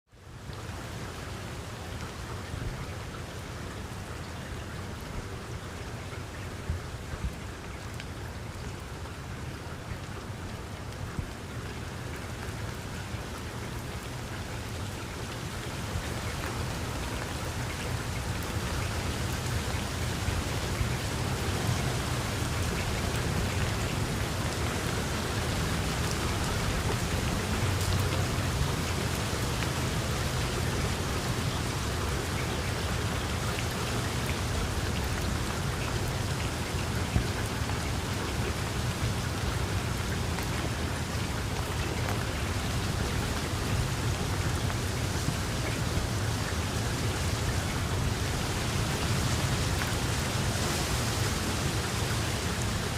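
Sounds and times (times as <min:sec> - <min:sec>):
steady rain pouring: 0:00.1 - 0:52.9.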